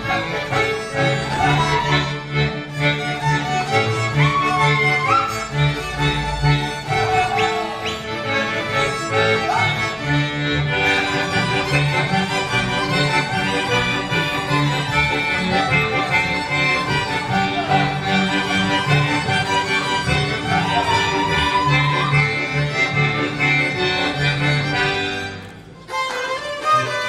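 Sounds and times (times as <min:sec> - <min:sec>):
accordion: 0:00.0 - 0:27.0
fiddle: 0:00.0 - 0:27.0
folk dance music: 0:00.0 - 0:27.0.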